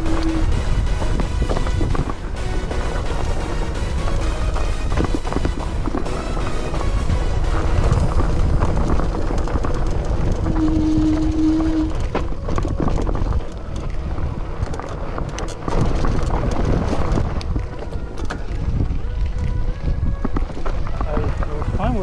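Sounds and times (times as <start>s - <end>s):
bike rattling over rocks: 0.0s - 22.0s
bike tyres crunching on gravel: 0.0s - 22.0s
wind rumbling on microphone: 0.0s - 22.0s.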